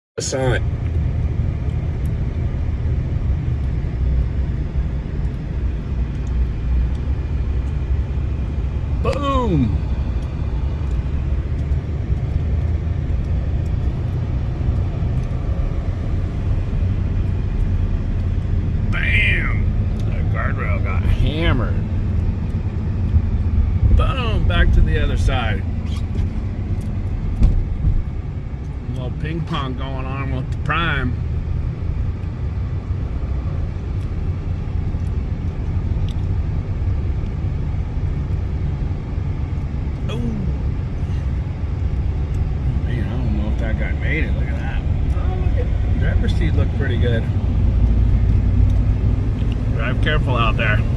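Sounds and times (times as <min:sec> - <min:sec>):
vehicle driving rumble: 0:00.2 - 0:50.9.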